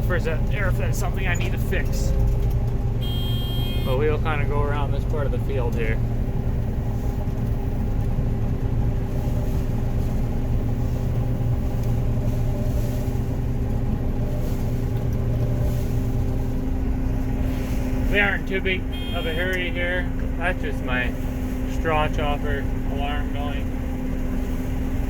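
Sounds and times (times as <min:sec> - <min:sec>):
faint steady tones: 0:00.0 - 0:08.2, 0:08.8 - 0:25.0
combine engine and machinery drone: 0:00.0 - 0:25.0.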